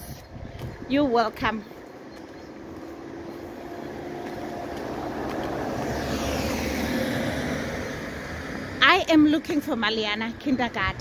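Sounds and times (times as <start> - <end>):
vehicle passing by: 1.6 - 11.0.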